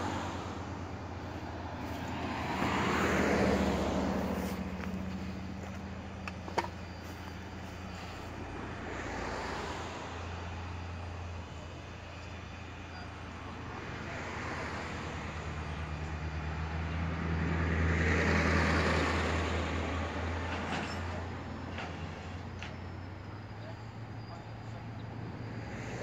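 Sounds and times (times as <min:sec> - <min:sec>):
low engine hum: 0:00.0 - 0:26.0
vehicles passing: 0:00.0 - 0:26.0.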